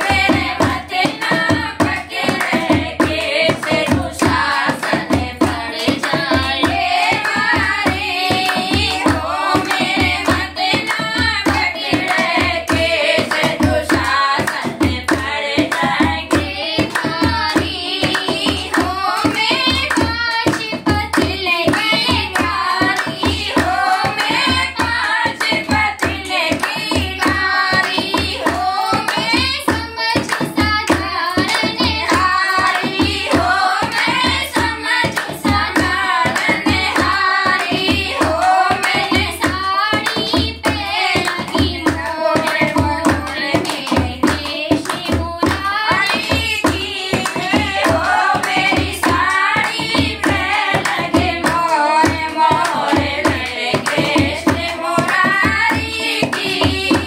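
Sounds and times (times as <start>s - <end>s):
hand clapping: 0.0s - 57.0s
hand drum beating: 0.0s - 57.0s
women singing in unison: 0.0s - 57.0s.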